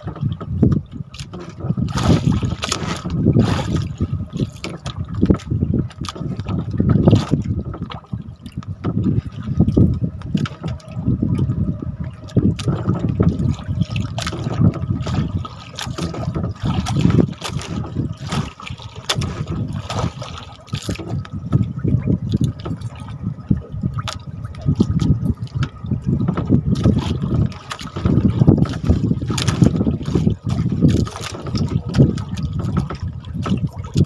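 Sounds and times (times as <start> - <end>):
water lapping against boat: 0.0 - 34.0
wind buffeting microphone: 0.0 - 34.0.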